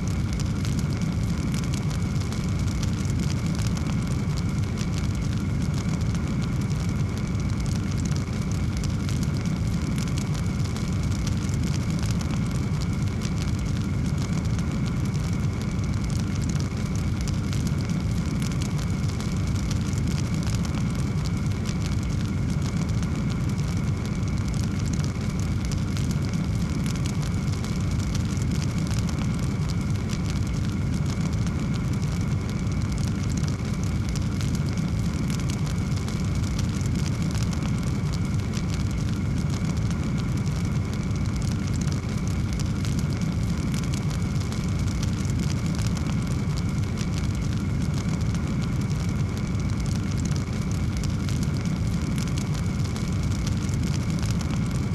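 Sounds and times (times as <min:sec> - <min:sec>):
low roar of flames: 0:00.0 - 0:54.9
wood fire crackling and popping: 0:00.0 - 0:54.9.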